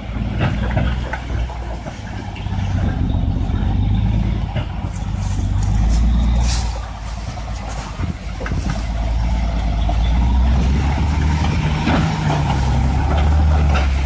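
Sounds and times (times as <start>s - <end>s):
diesel truck engine running: 0.0s - 14.0s
knocks and rattles: 0.2s - 14.0s.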